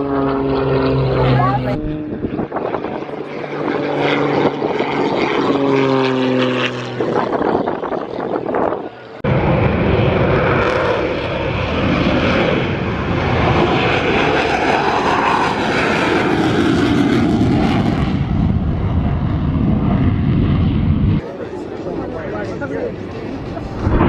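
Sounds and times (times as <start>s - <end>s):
aircraft whoosh: 0.0s - 24.0s
airplane engine noise: 0.0s - 24.0s.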